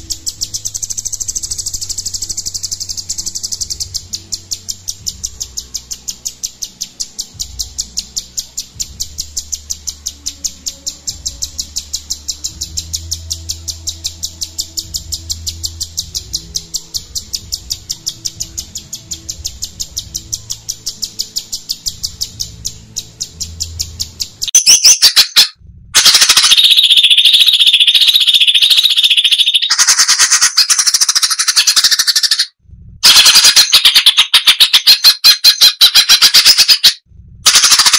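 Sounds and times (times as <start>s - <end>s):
bird calling with high ticks: 0.0s - 37.9s
bird rapid-fire song: 0.0s - 37.9s.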